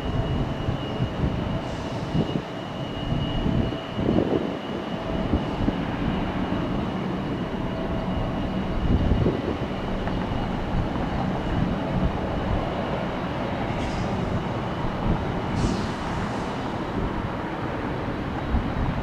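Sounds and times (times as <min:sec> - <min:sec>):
high jet engine whine: 0:00.0 - 0:19.0
jet engines rumbling: 0:00.0 - 0:19.0.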